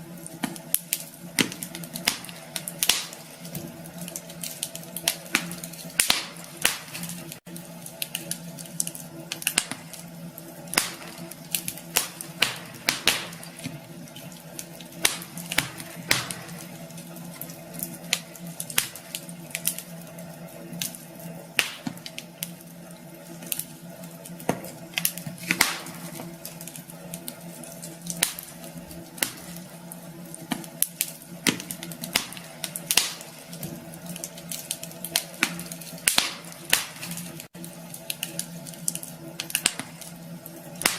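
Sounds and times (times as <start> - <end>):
steady low hum: 0.0 - 40.9
wood fire crackling and popping: 0.0 - 40.9.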